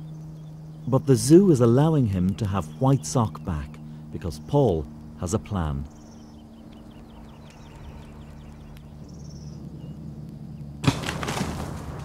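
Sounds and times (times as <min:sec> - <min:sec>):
small birds chirping: 0:00.0 - 0:10.8
low steady hum: 0:00.0 - 0:12.0.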